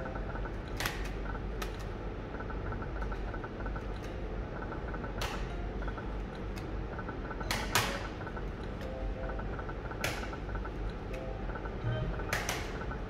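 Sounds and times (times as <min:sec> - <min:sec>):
slot machine spin clicks: 0:00.0 - 0:13.0
steady machine hum: 0:00.0 - 0:13.0.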